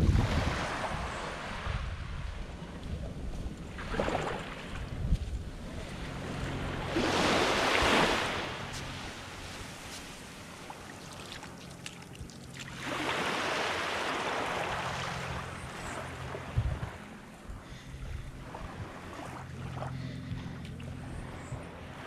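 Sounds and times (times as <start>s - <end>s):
small waves breaking on sand: 0.0s - 17.8s, 18.4s - 22.0s.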